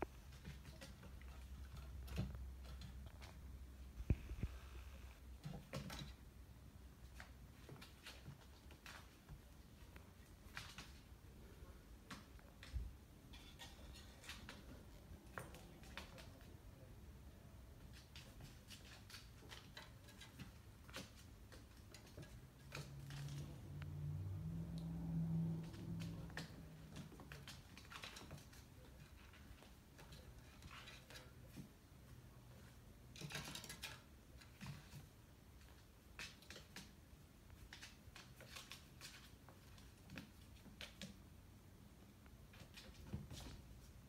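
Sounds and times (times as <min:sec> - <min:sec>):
kitten playing on wooden floor: 0:00.0 - 0:04.5, 0:05.2 - 0:16.8, 0:17.7 - 0:44.0.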